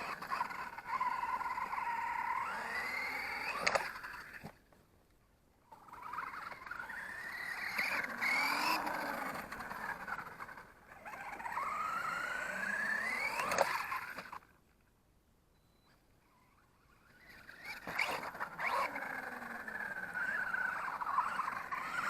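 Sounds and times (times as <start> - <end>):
rc truck electric motor whining: 0.0 - 4.6, 5.6 - 14.5, 16.2 - 22.0.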